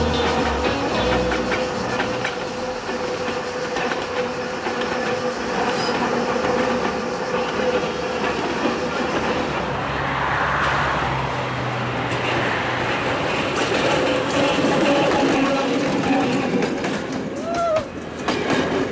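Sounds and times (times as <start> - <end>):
diesel locomotive engine humming: 0.0 - 18.9
train wheels rolling on track: 0.0 - 18.9.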